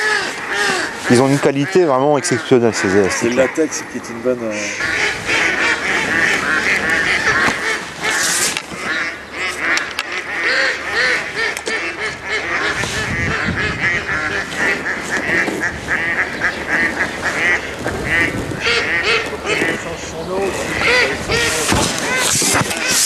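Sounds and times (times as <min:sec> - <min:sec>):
waterfowl honking: 0:00.0 - 0:23.0.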